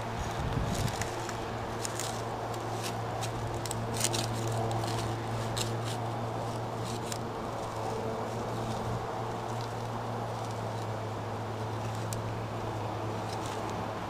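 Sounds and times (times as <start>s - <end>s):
garden fork crunching gravelly soil: 0.0s - 12.3s, 13.0s - 13.9s
steady low hum: 0.0s - 14.0s.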